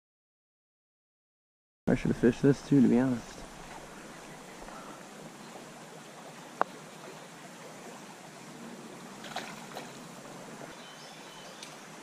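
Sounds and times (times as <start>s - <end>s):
stream flowing over gravel: 2.0s - 12.0s.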